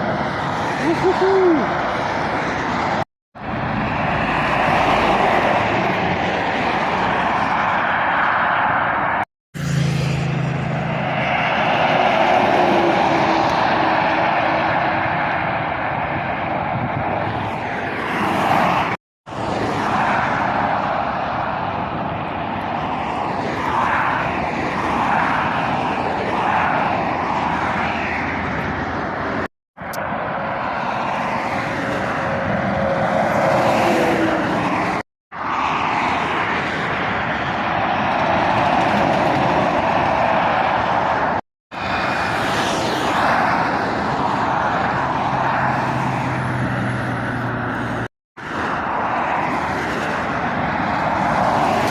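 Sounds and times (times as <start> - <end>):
road traffic roar: 0.0 - 51.9
vehicle passing by: 0.0 - 51.9.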